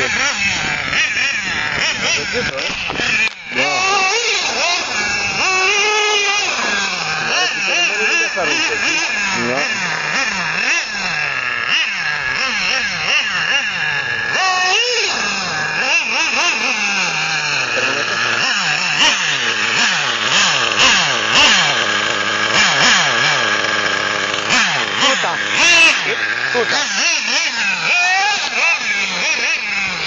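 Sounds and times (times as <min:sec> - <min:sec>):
rc car nitro engine revving: 0:00.0 - 0:30.0.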